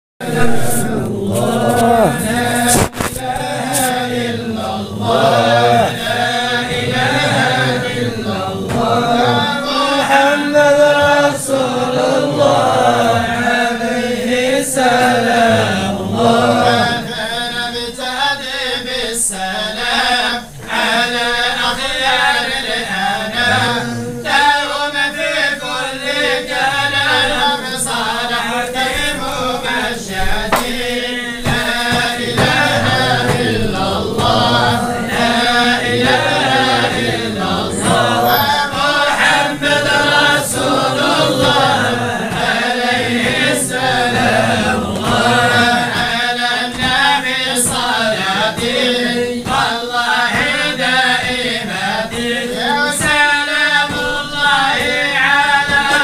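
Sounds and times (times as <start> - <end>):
group chanting in unison: 0.2 - 56.0.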